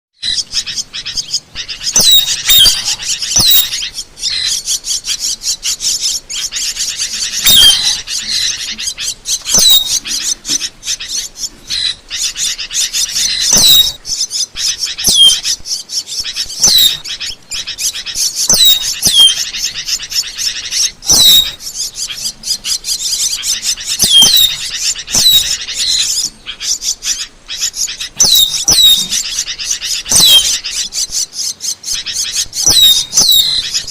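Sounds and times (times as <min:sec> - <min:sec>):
starling chirps and clicks: 0:00.2 - 0:33.9
starling falling whistles: 0:00.2 - 0:33.9.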